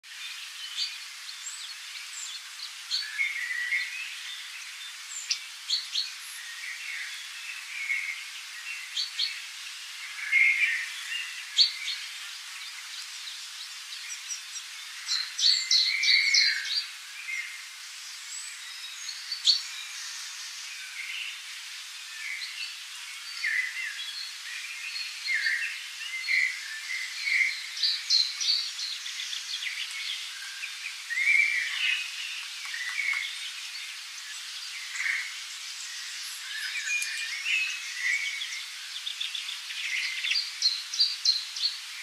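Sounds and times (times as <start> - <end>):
background hiss: 0.0 - 42.0
small birds chirping and trilling: 0.0 - 42.0.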